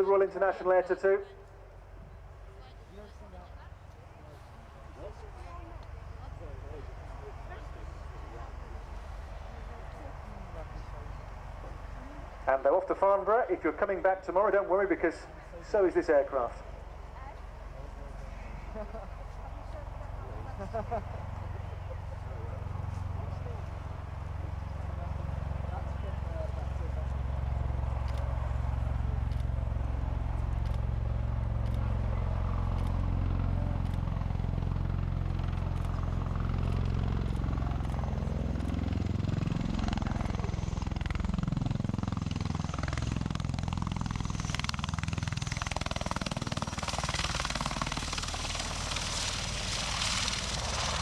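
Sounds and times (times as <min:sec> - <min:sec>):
deep rotor drone: 0:00.0 - 0:51.0.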